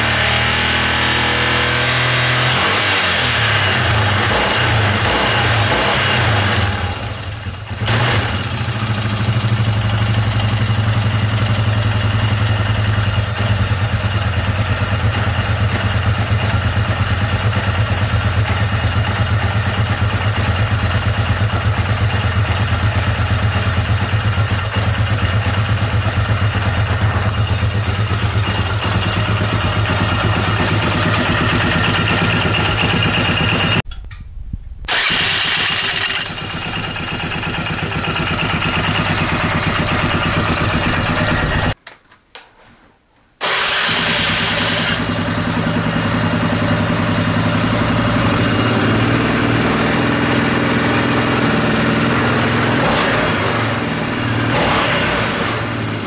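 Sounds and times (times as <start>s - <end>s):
atv engine running: 0.0s - 33.8s, 34.9s - 41.8s, 43.4s - 56.0s.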